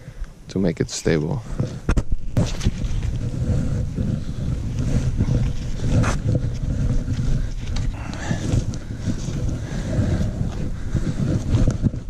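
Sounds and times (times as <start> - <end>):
wind buffeting microphone: 1.3 - 12.0.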